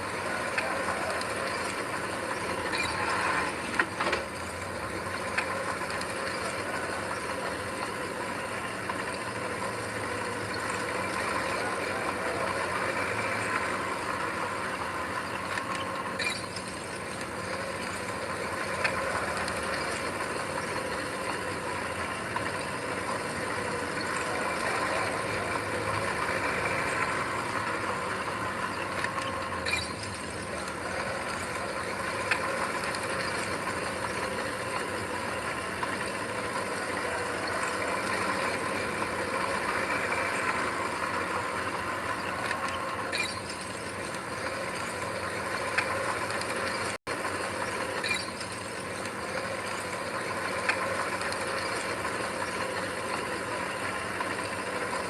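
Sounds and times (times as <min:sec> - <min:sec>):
bulldozer diesel engine running: 0:00.0 - 0:55.0
clatter of tracks and gear: 0:00.0 - 0:55.0.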